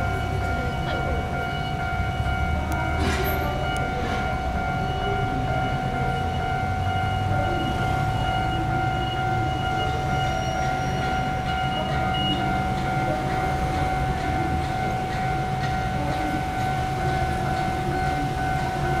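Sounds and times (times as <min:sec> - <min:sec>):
level-crossing warning alarm: 0:00.0 - 0:19.0.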